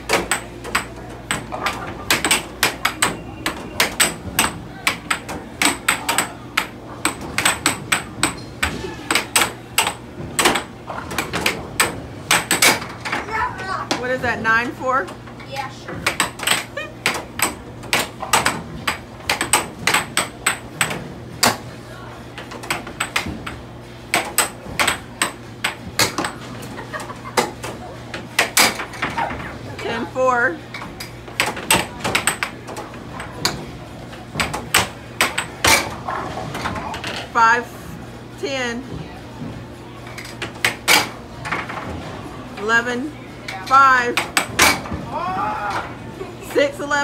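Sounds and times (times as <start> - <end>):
air hockey puck clacking: 0.0 - 21.7, 22.4 - 30.0, 30.7 - 37.3, 40.1 - 42.0, 43.5 - 45.1.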